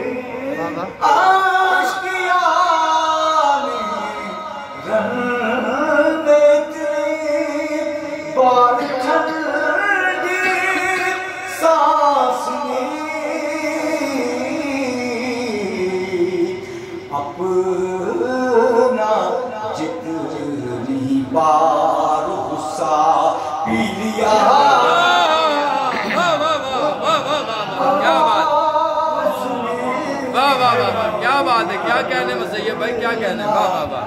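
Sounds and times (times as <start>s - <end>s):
man singing into a microphone: 0.0s - 34.0s.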